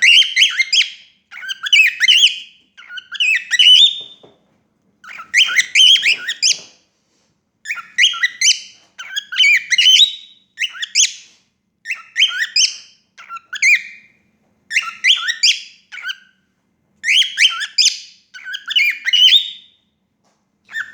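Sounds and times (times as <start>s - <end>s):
cockatiel whistling: 0.0s - 4.3s, 5.0s - 6.7s, 7.6s - 14.1s, 14.7s - 16.4s, 17.0s - 19.7s, 20.7s - 20.9s.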